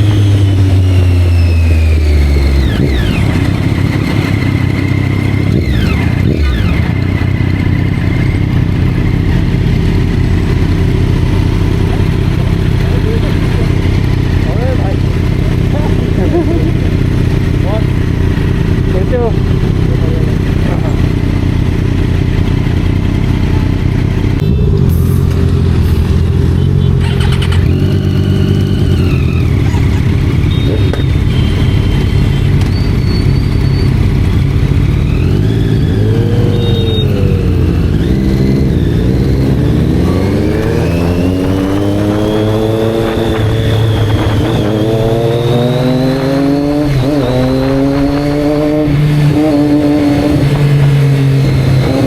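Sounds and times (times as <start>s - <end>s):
motorcycle engines revving: 0.0s - 52.0s.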